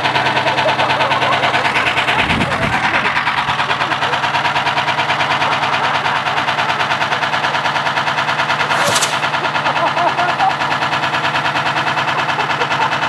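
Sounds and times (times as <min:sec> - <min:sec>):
motor hum: 0:00.0 - 0:11.4.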